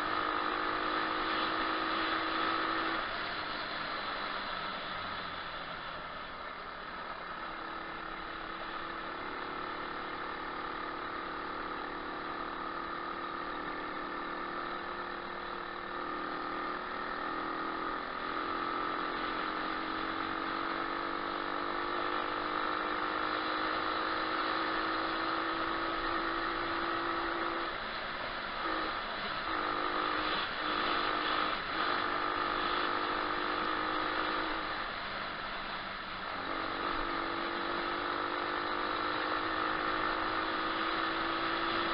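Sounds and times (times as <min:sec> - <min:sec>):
motorbike engine running: 0:00.0 - 0:41.9.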